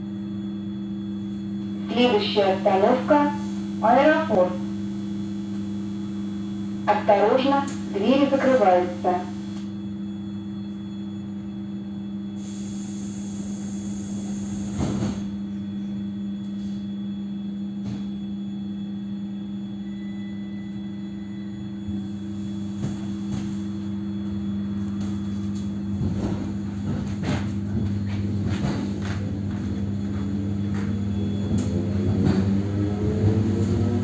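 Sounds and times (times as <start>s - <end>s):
low electrical hum of train: 0.0s - 34.0s.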